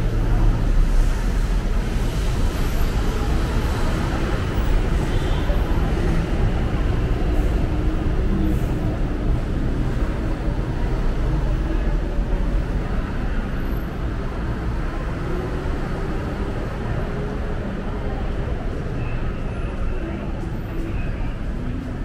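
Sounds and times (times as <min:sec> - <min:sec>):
low rumble of city traffic: 0:00.0 - 0:22.0.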